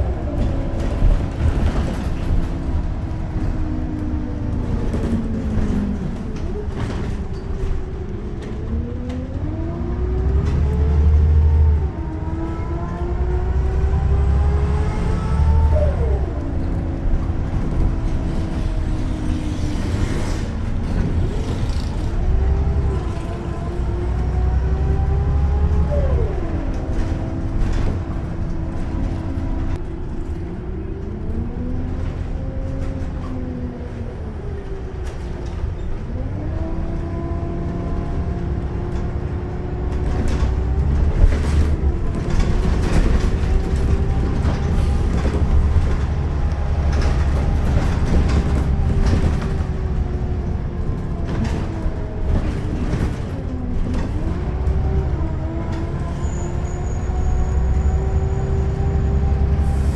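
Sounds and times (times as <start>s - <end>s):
bus engine accelerating: 0.0s - 59.9s.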